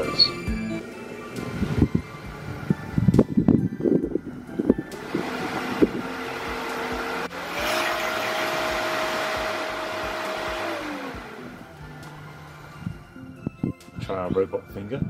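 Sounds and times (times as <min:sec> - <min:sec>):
pool pump motor whine: 0:00.0 - 0:13.6.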